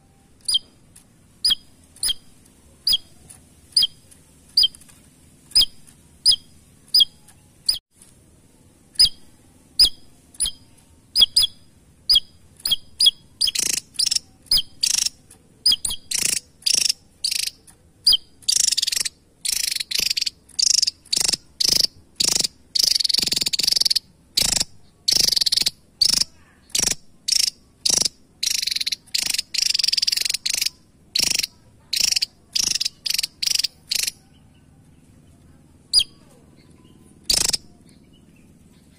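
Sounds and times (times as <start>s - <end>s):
bird calling sharp notes: 0.0s - 7.8s, 8.9s - 34.6s, 35.9s - 38.2s
harsh buzzy bird calls: 0.0s - 7.8s, 8.5s - 38.9s.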